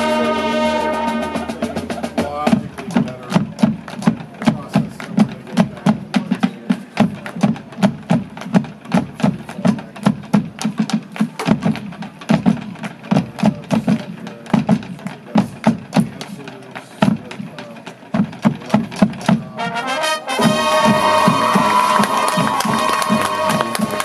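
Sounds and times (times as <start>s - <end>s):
marching band drums playing: 0.0s - 24.0s.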